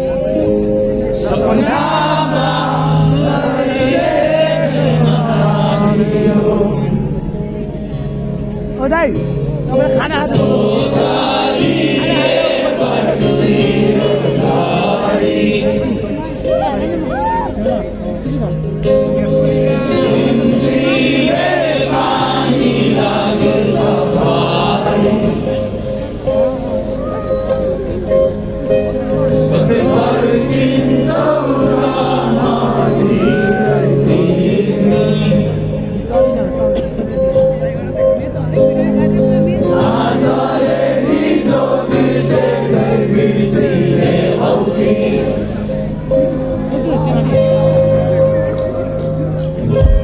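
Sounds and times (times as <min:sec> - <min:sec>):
live band music with singing: 0:00.0 - 0:50.0.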